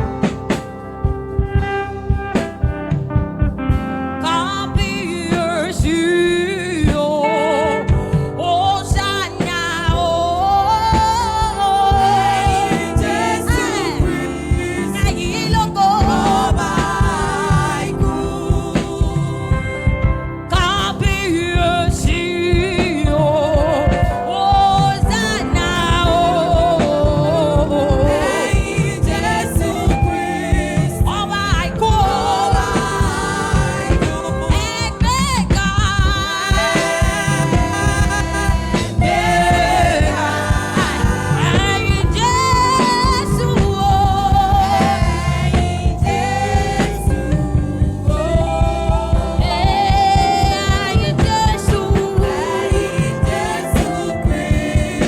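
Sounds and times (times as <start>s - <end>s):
band playing driving beat: 0.0s - 10.2s, 10.8s - 55.0s
voices singing gospel melody: 0.0s - 55.0s.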